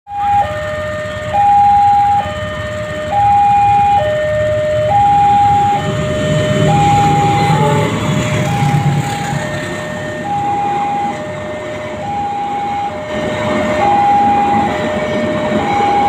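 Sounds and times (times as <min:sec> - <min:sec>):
diesel locomotive rumble: 0:00.1 - 0:16.0
level crossing two-tone alarm: 0:00.1 - 0:16.0.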